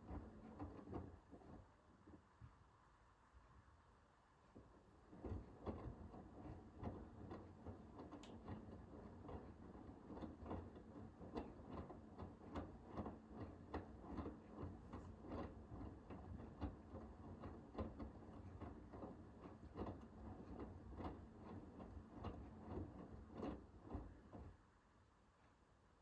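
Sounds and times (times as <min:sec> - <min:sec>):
washing machine motor hum: 0:00.0 - 0:25.1.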